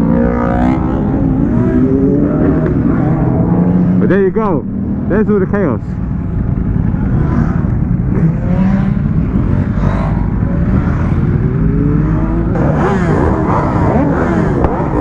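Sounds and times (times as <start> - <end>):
motorbike engines revving: 0.0 - 15.0.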